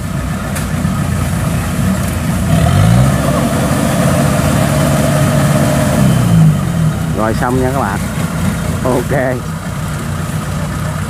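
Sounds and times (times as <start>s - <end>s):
combine harvester diesel engine revving: 0.0s - 11.0s.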